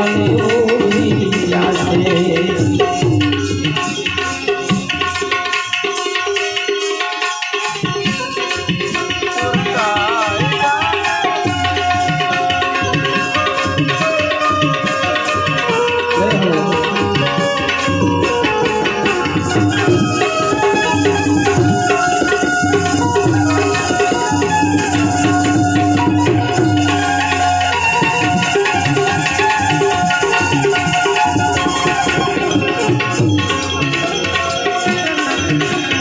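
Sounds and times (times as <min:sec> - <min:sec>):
harmonium melody: 0:00.0 - 0:36.0
tabla rhythm: 0:00.0 - 0:36.0.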